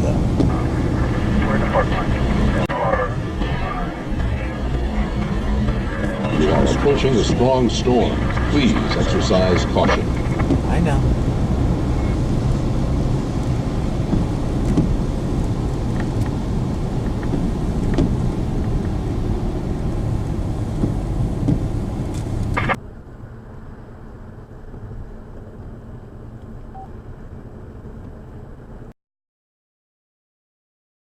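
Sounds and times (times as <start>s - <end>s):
vehicle interior engine rumble: 0.0s - 28.9s.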